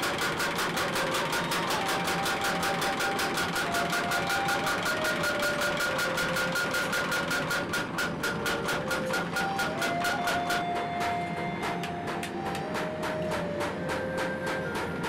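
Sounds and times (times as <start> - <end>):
power hammer striking: 0.0 - 15.0.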